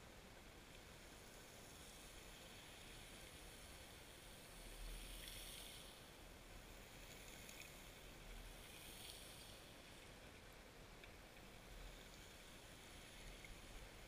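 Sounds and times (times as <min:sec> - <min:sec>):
water surges: 0:00.0 - 0:14.0
underwater hiss: 0:01.1 - 0:10.0, 0:11.6 - 0:14.0.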